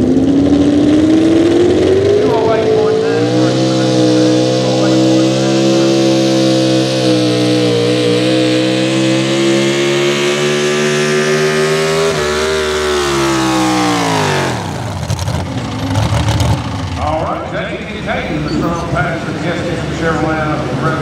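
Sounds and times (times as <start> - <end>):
rough crackling engine: 0.0 - 21.0
truck engine at high revs: 0.0 - 21.0.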